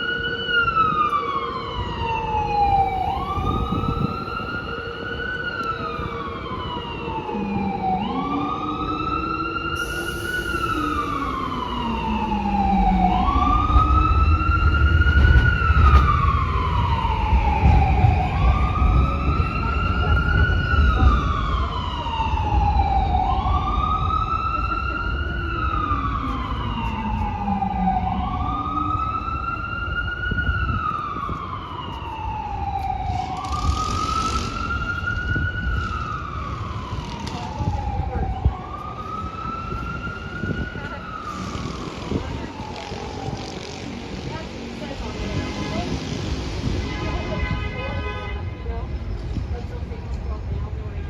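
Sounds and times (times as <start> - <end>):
emergency siren wailing: 0.0 - 51.0.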